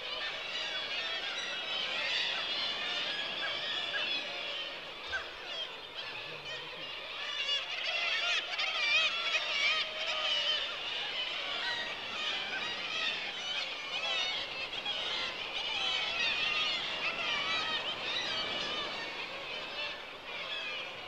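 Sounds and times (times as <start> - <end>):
seabird colony calling: 0.0 - 21.0.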